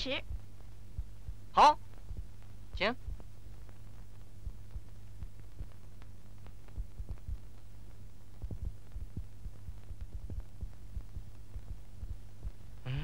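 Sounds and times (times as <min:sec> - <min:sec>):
film crackle clicks and pops: 0:00.0 - 0:12.9
low hum: 0:00.0 - 0:13.0.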